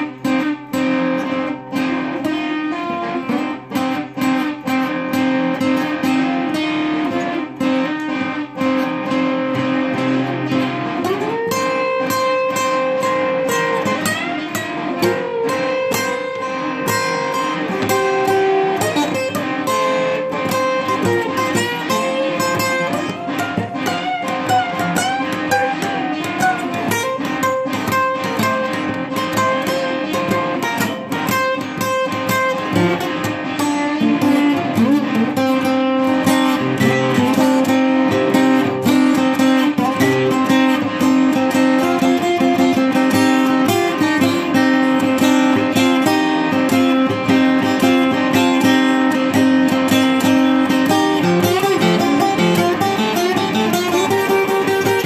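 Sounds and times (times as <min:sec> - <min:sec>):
acoustic guitar instrumental: 0:00.0 - 0:55.0.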